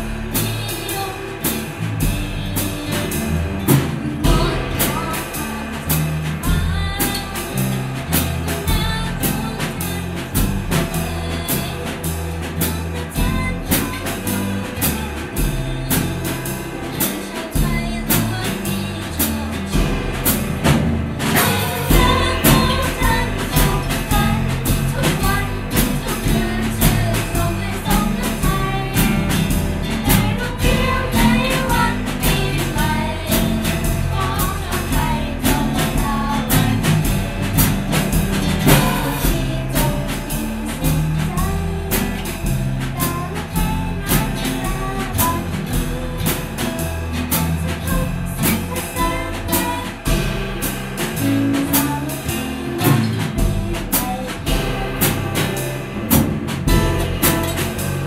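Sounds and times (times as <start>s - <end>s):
drum kit beat: 0.0s - 58.0s
guitar and bass: 0.0s - 58.0s
person singing: 2.5s - 20.4s, 21.3s - 37.5s, 38.6s - 55.9s.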